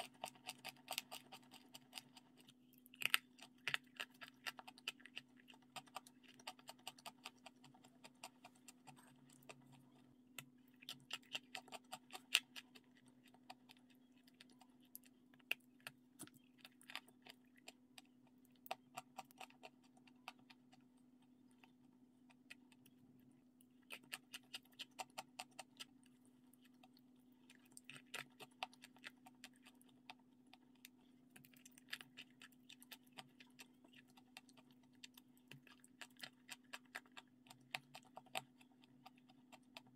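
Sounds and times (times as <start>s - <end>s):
person chewing crispy sandwich: 0.0s - 23.0s, 23.8s - 39.9s
faint steady hum: 0.0s - 39.9s.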